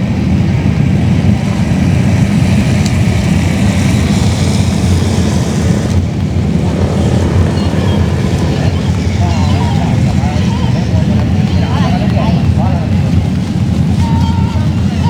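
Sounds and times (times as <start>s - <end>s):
loud low engine rumble: 0.0s - 15.0s.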